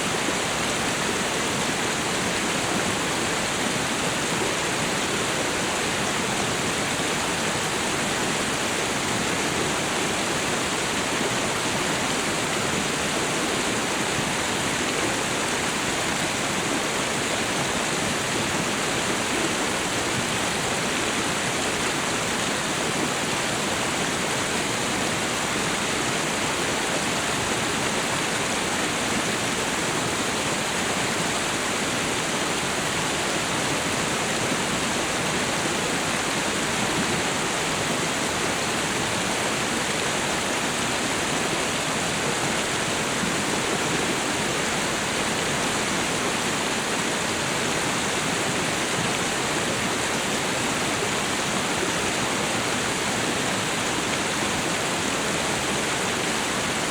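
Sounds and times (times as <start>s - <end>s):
waterfall and river rushing: 0.0s - 56.9s.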